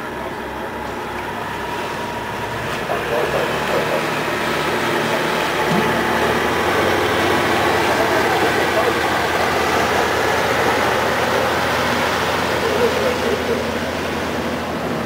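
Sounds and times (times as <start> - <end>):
boat engines running: 0.0 - 15.0
water churning: 0.5 - 15.0.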